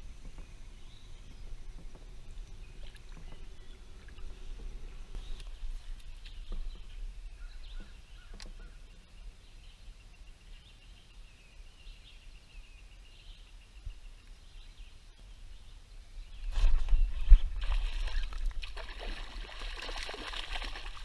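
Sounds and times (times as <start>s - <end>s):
birds chirping and trilling: 0.3s - 18.4s.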